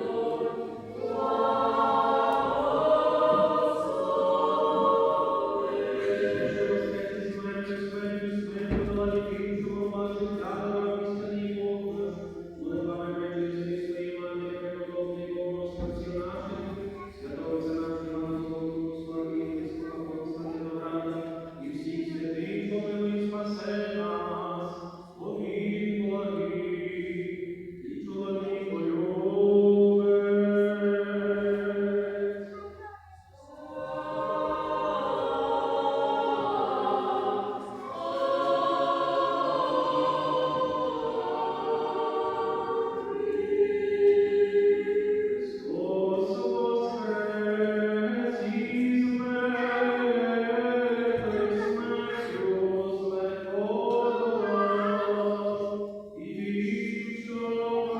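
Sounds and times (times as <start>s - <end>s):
choir chanting a cappella: 0.0s - 57.9s.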